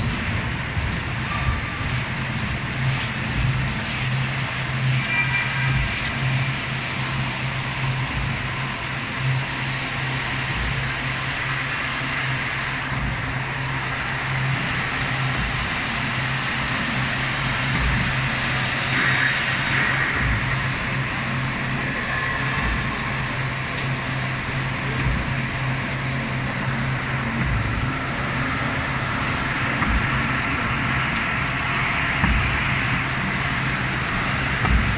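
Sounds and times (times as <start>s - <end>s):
machine whirring: 0.0s - 34.9s.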